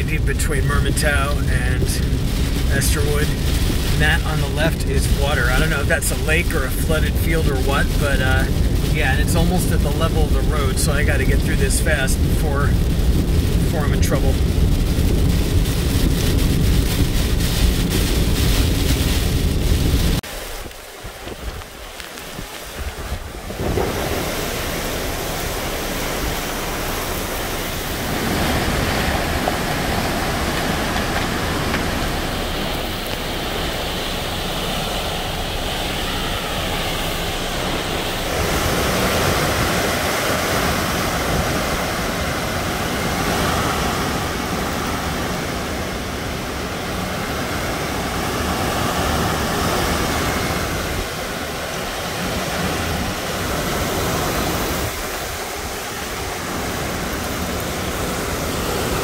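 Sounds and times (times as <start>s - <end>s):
driving rain: 0.0s - 59.0s
hurricane wind: 0.0s - 59.0s.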